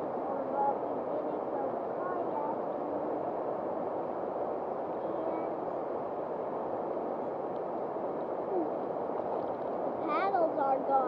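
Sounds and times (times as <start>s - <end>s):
shallow river water flowing: 0.0s - 11.0s.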